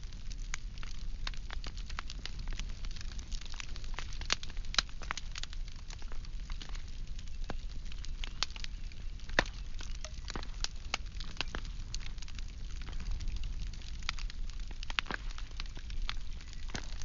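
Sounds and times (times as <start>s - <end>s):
logs crackling and popping: 0.0s - 17.0s.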